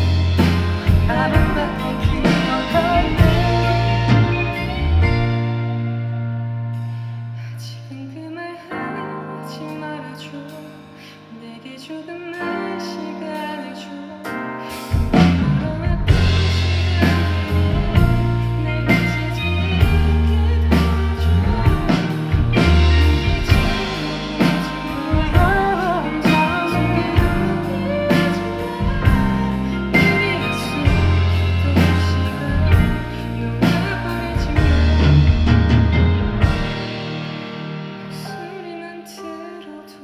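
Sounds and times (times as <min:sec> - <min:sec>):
live pop band playing: 0:00.0 - 0:07.9, 0:08.7 - 0:40.0.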